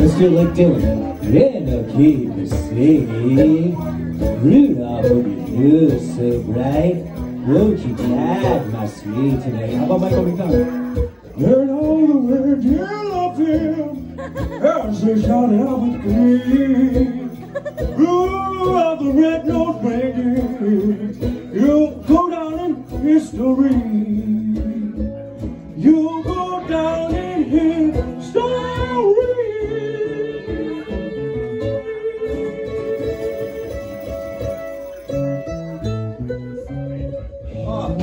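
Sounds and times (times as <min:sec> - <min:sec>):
man singing: 0:00.0 - 0:34.2, 0:36.5 - 0:38.0
strummed acoustic guitar: 0:00.0 - 0:38.0.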